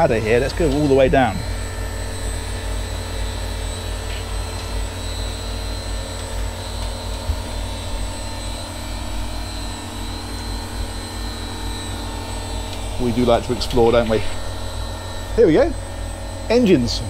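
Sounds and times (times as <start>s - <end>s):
engine-room machinery hum: 0.0s - 17.0s.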